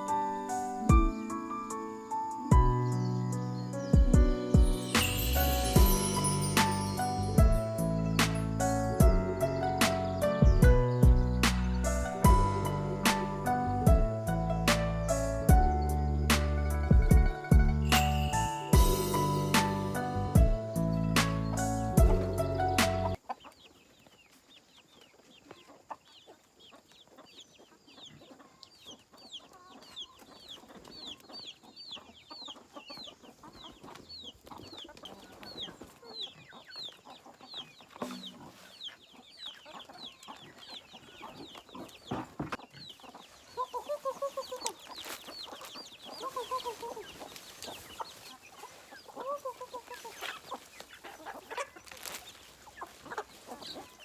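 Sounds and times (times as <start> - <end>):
chicks peeping: 0.0 - 54.0
chickens clucking: 4.5 - 54.0.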